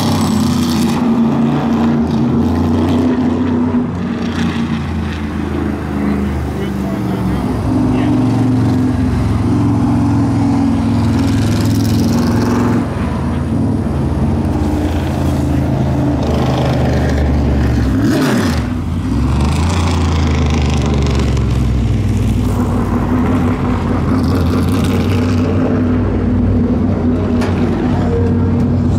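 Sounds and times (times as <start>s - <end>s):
race car engines running: 0.0s - 28.9s.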